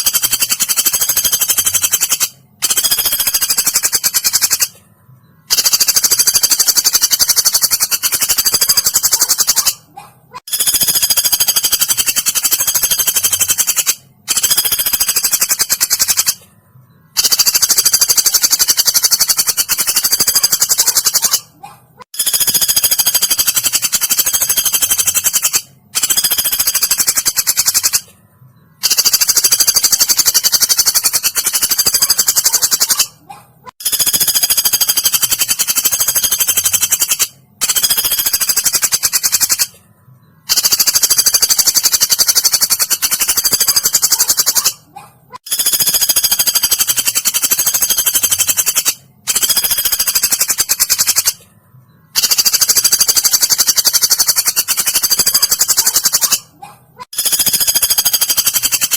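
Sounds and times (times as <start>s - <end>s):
woodpecker rattling trills: 0.0s - 4.8s, 5.4s - 16.4s, 17.1s - 28.1s, 28.8s - 39.8s, 40.4s - 51.4s, 52.1s - 58.9s.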